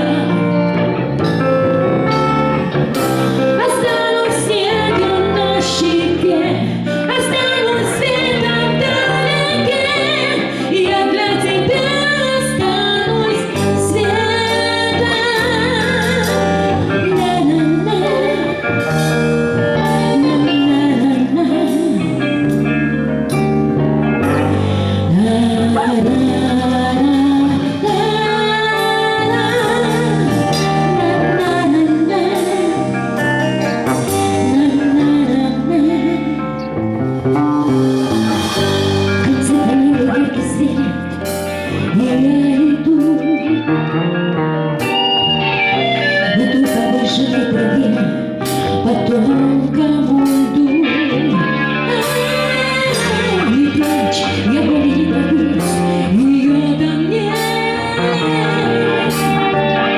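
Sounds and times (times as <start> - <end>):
live pop-rock band playing: 0.0 - 59.9
person singing: 0.0 - 59.9.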